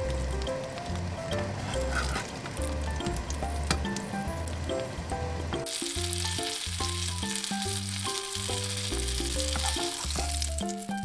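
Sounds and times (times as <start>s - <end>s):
background music: 0.0s - 11.0s
batter sizzling in hot oil: 0.0s - 11.0s.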